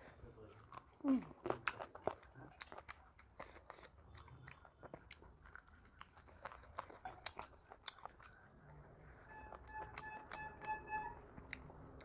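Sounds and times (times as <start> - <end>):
person chewing crunchy food: 0.5 - 10.4.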